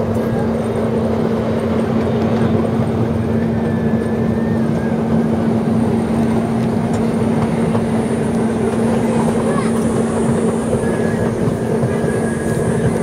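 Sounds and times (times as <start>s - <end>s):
train engine hum: 0.0s - 13.0s
wheels rumbling on track: 0.0s - 13.0s.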